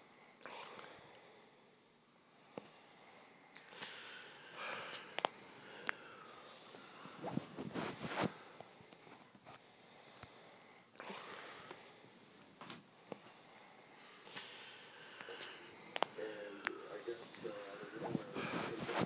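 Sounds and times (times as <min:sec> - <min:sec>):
breathy rustling: 0:02.6 - 0:19.0.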